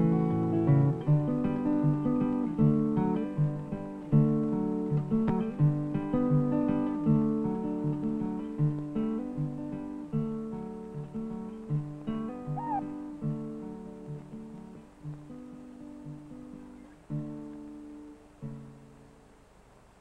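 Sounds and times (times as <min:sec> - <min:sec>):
acoustic guitar chords: 0:00.0 - 0:19.3.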